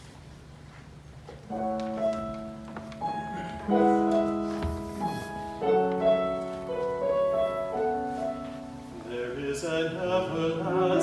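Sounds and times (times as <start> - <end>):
piano chords with melody: 1.5 - 11.0.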